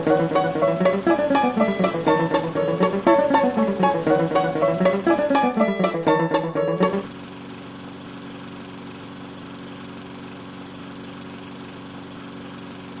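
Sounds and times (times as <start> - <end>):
lawn mower engine running: 0.0 - 6.2, 7.0 - 13.0.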